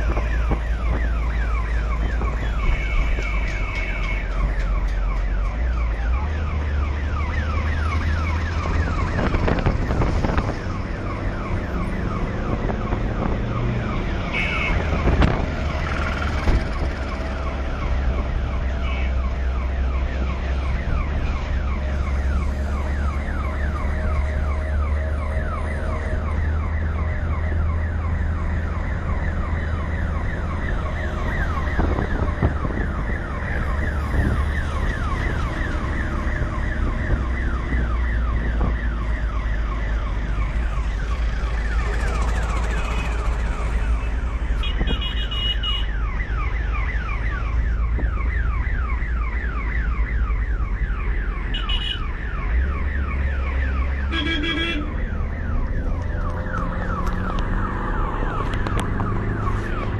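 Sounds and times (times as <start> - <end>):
ambulance siren: 0.0 - 59.9
vehicle engine rumble: 0.0 - 59.9.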